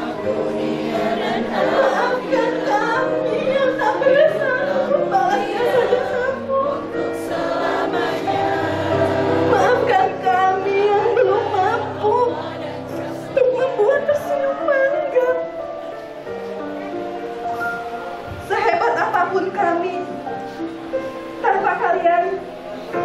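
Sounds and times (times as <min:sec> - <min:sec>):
mixed choir singing: 0:00.0 - 0:19.5.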